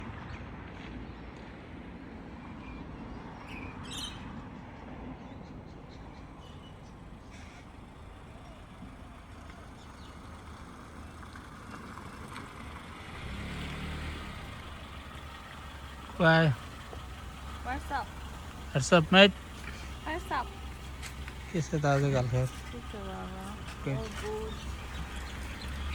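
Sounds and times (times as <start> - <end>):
distant traffic rumble: 0.0 - 25.9
vehicle engine hum: 0.0 - 25.9.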